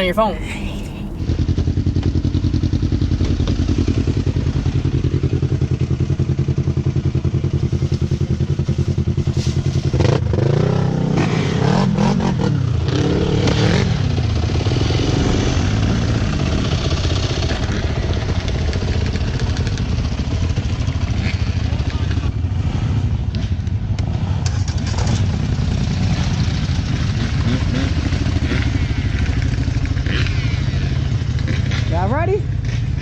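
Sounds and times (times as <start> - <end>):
small engine idling and revving: 1.4 - 33.0.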